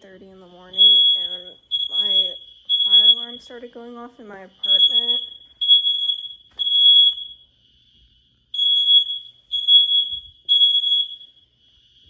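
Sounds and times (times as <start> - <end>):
fire alarm beeping: 0.0 - 7.8, 8.5 - 12.0.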